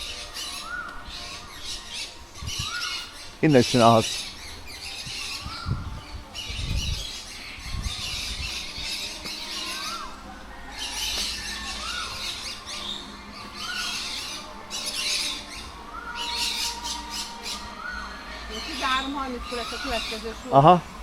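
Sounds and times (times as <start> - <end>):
rising and falling whistled call: 0.0 - 20.5
birds squawking harshly: 0.0 - 21.0.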